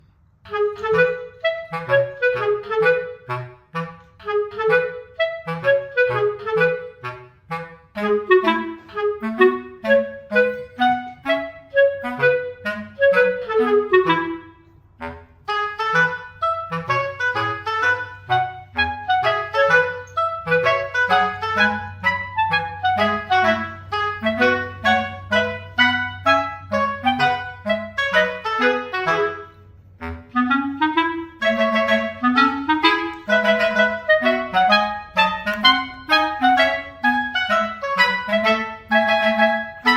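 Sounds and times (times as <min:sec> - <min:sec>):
instrumental tune over bass line: 0:00.5 - 0:39.9.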